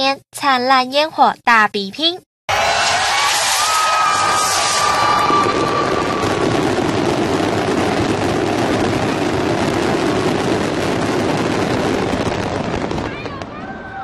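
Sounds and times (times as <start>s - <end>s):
fireworks bursting and crackling: 2.5s - 14.0s.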